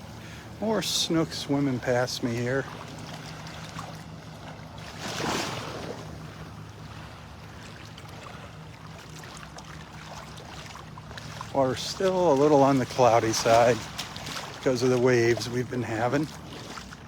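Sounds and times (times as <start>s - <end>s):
low engine hum: 0.0s - 17.0s
small waves washing: 0.0s - 17.0s.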